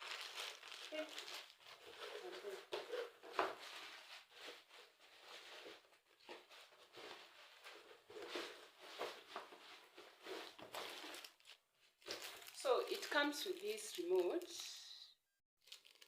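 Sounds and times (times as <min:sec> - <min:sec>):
packaging rustling and crinkling: 0:00.0 - 0:14.6, 0:15.6 - 0:16.0.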